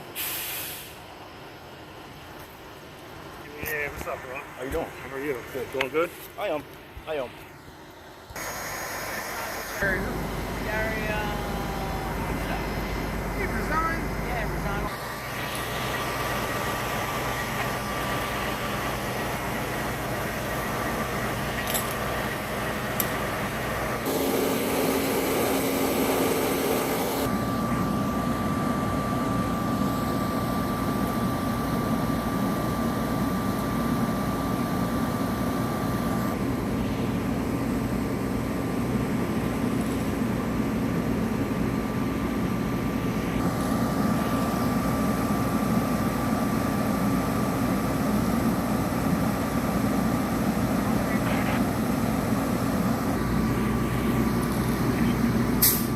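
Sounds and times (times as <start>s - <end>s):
steady low hum: 1.0s - 55.9s
diesel engine running: 7.4s - 55.9s.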